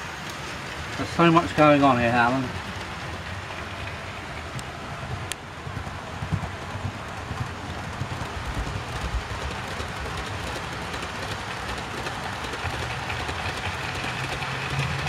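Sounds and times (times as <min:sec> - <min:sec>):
model trains running rumble: 0:00.0 - 0:15.0
wheels clicking over rail joints: 0:00.0 - 0:15.0
low motor hum: 0:01.6 - 0:15.0.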